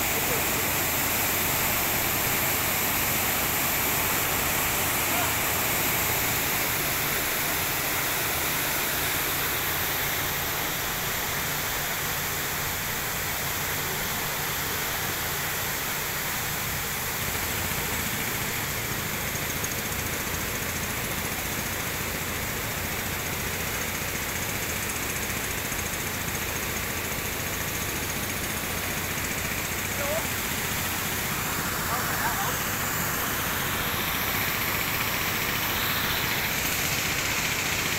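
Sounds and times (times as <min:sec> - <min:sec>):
waterfall rushing over rocks: 0:00.0 - 0:37.9.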